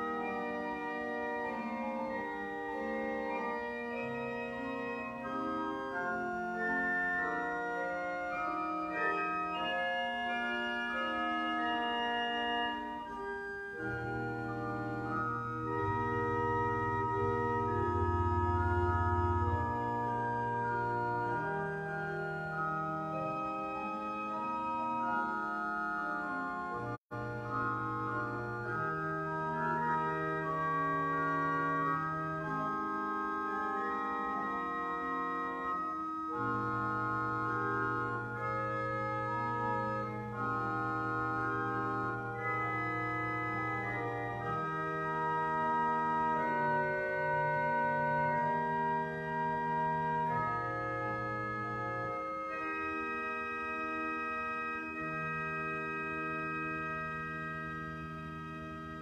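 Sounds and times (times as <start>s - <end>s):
organ music: 0.0s - 59.0s.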